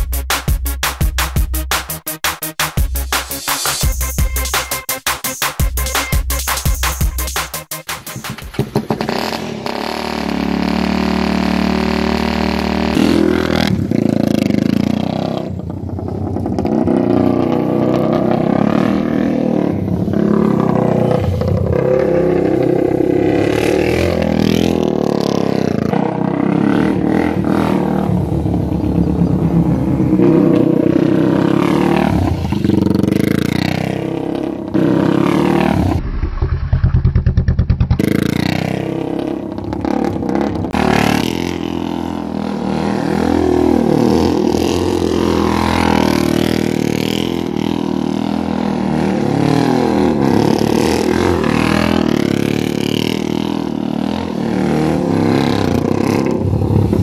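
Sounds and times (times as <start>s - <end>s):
motorcycle engine revving: 8.0s - 57.0s.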